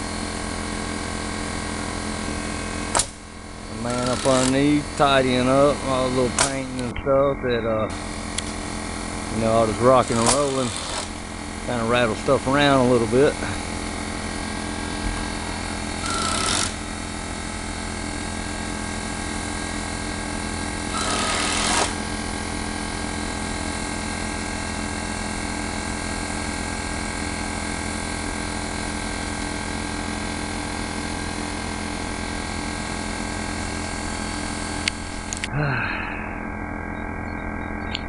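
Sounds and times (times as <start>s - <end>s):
mechanical drone: 0.0s - 38.0s.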